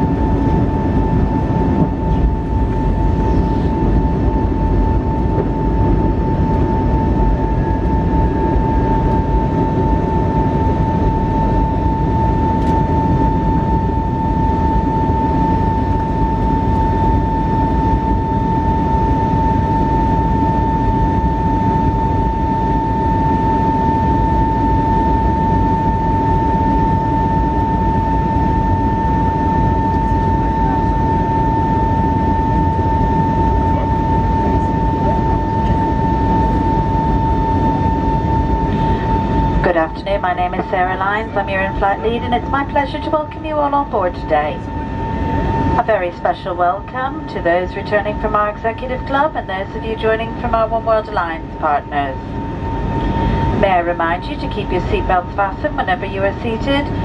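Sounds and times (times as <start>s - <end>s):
aircraft cabin engine and airflow noise: 0.0s - 57.0s
steady engine whine: 0.0s - 57.0s.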